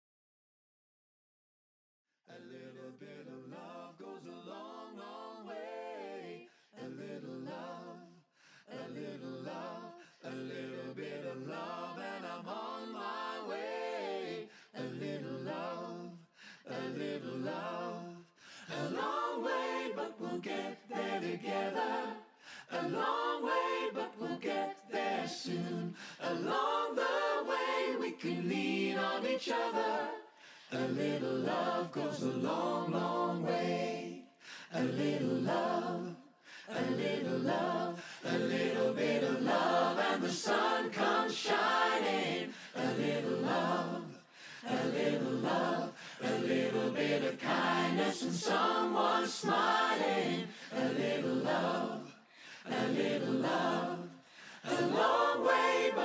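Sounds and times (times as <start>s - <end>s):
a cappella group singing in harmony: 2.2s - 56.0s.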